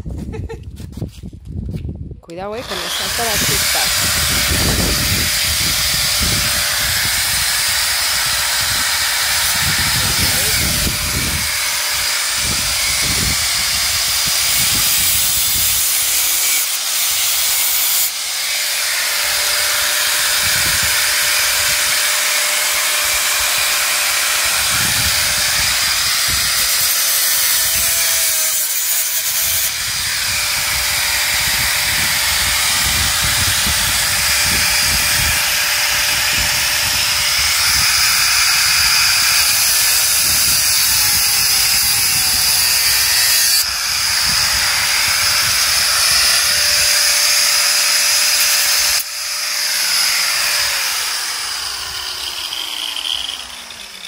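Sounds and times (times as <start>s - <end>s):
angle grinder cutting metal: 2.3s - 54.0s.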